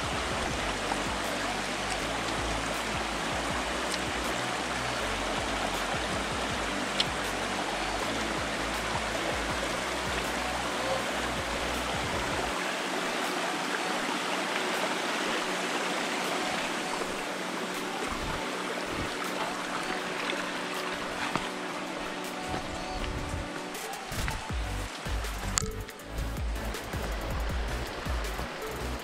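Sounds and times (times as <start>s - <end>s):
background music: 0.0s - 29.0s
river water rushing: 0.0s - 29.0s.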